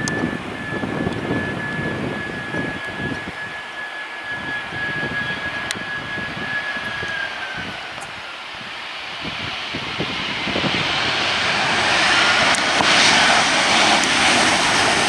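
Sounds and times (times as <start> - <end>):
jet engine high whine: 0.0 - 15.0
rushing jet rumble: 0.0 - 15.0.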